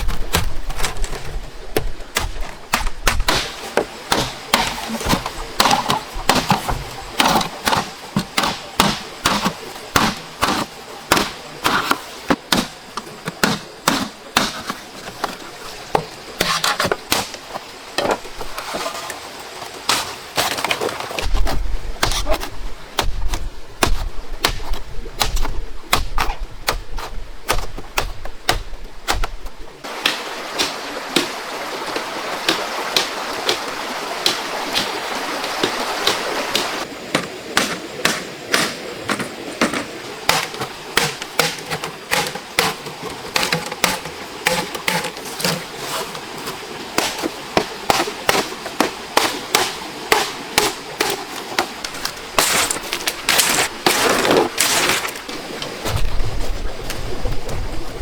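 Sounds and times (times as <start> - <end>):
blade chopping wood: 0.0 - 18.4, 19.8 - 56.1.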